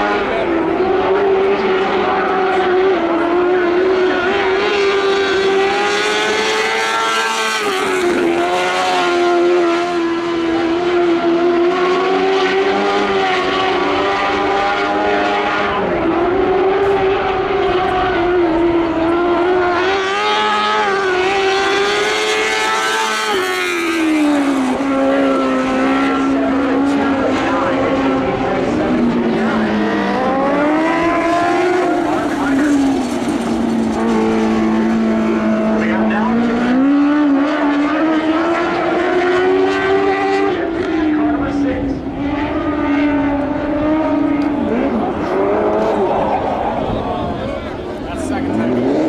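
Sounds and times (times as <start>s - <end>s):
race car engine at high revs: 0.0s - 49.0s.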